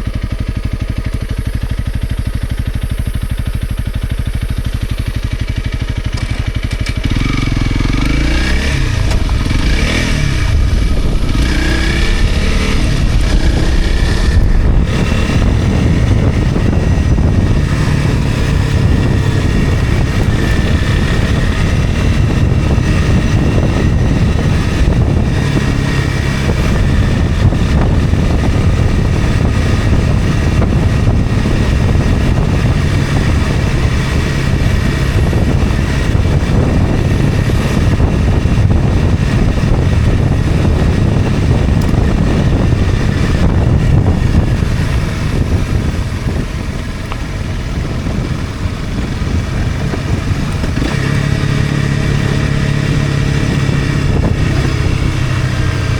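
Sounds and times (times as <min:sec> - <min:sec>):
motorcycle engine running: 0:00.0 - 0:55.9
steady rushing noise: 0:03.0 - 0:55.9.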